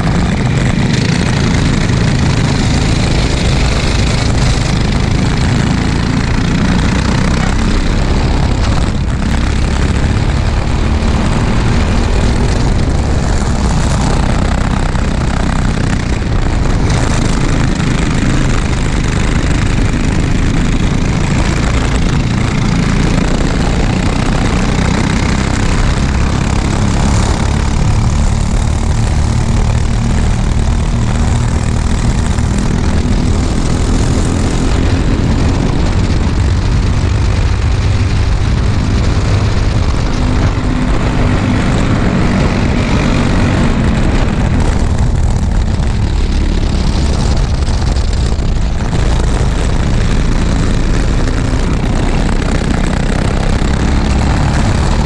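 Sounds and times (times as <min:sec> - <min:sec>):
kart engine running hard: 0:00.0 - 0:55.0
surrounding kart engines: 0:00.0 - 0:55.0
wind rush on microphone: 0:00.0 - 0:55.0.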